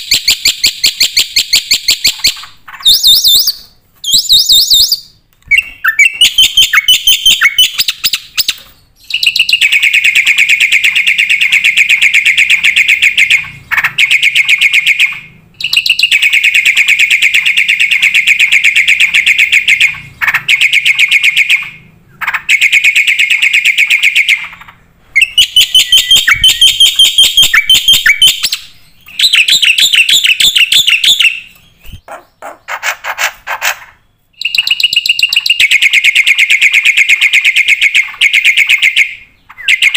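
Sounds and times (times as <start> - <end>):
bird harsh chattering song: 0.0 - 39.9.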